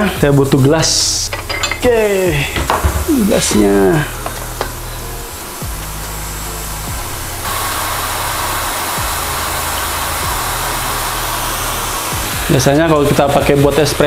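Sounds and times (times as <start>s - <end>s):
background music: 0.0s - 14.0s
espresso machine hissing: 1.9s - 14.0s.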